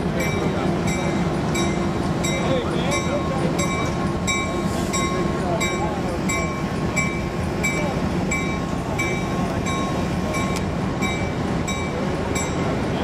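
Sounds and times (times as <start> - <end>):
diesel locomotive rumbling: 0.0 - 13.0
locomotive bell ringing: 0.0 - 13.0.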